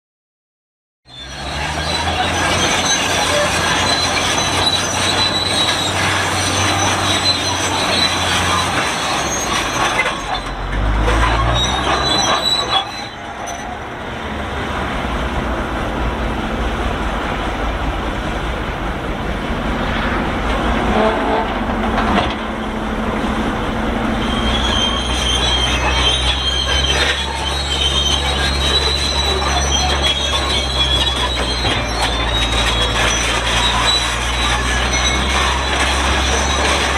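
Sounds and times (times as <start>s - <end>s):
bulldozer tracks squealing: 1.0s - 36.9s
diesel engine running: 1.1s - 36.9s.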